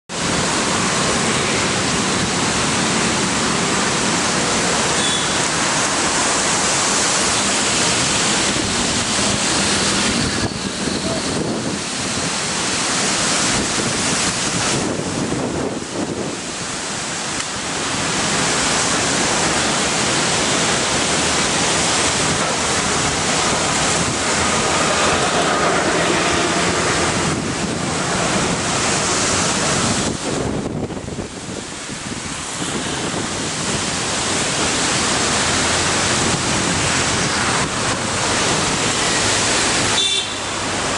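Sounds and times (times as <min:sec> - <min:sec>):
storm wind buffeting microphone: 0:05.5 - 0:39.9.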